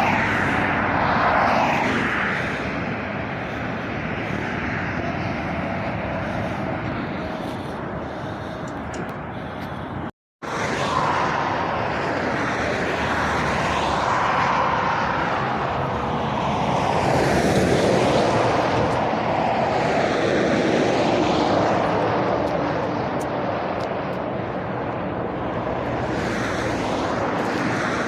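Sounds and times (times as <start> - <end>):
road traffic passing at speed: 0.0 - 28.0.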